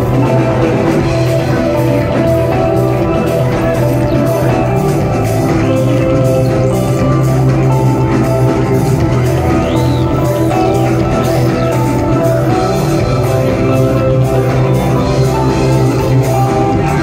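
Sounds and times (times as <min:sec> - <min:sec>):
loud concert music: 0:00.0 - 0:17.0.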